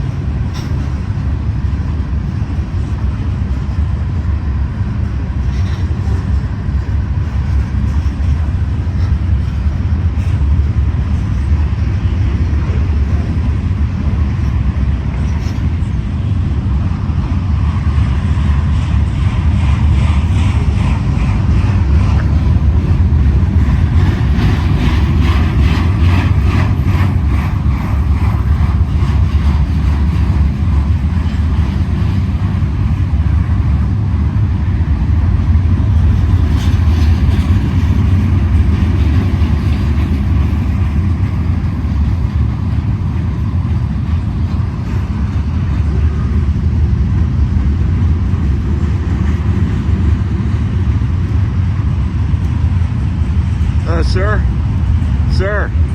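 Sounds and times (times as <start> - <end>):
train wheels clicking: 0.0 - 54.1
freight train rumbling past: 0.0 - 55.9.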